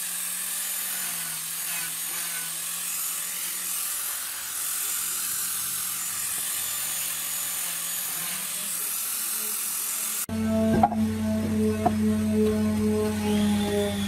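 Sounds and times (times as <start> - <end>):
angle grinder motor whine: 0.0 - 14.0
sanding disc hissing on wood: 0.0 - 14.0.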